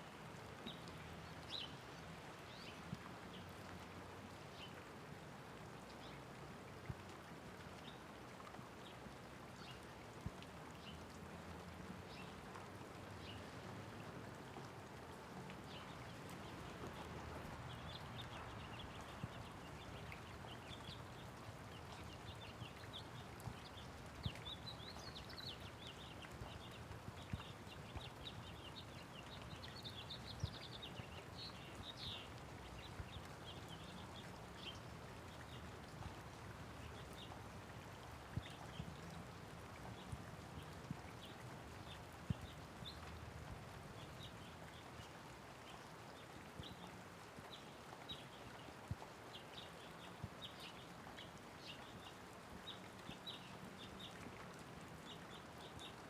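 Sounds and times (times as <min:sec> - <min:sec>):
rain patter: 0:00.0 - 0:56.0.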